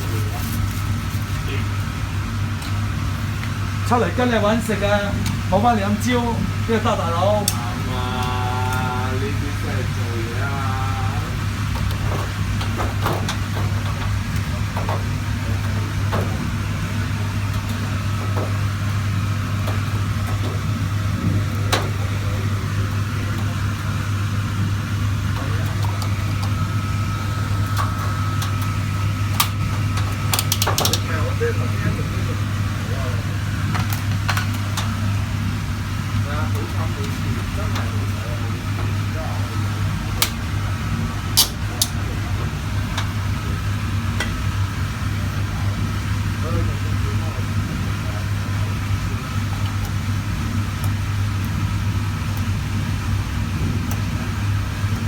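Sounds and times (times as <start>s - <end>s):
refrigerator compressor humming: 0.0s - 55.0s.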